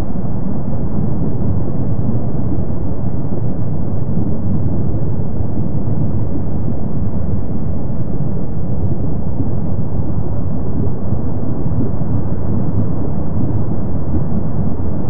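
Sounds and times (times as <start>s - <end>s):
low rumble of erupting lava: 0.0s - 15.0s.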